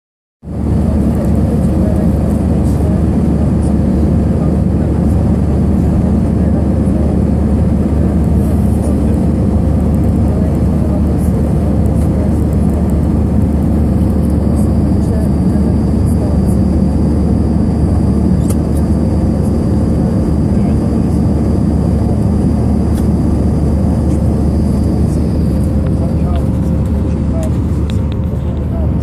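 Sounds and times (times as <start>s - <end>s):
airliner cabin engine rumble: 0.4s - 29.0s.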